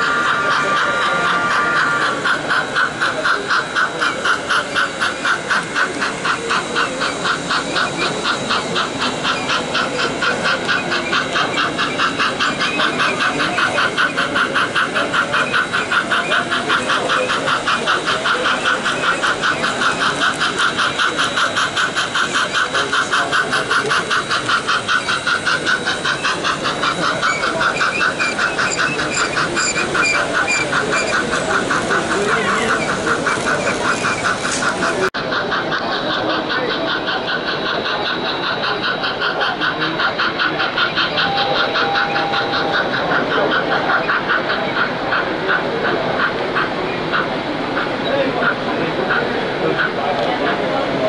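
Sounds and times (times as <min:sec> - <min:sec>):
model steam locomotive chuffing: 0:00.0 - 0:51.0.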